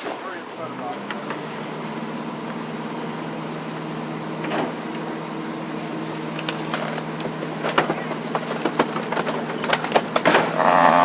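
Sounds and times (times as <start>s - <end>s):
garbage truck compactor humming: 0.0s - 11.0s.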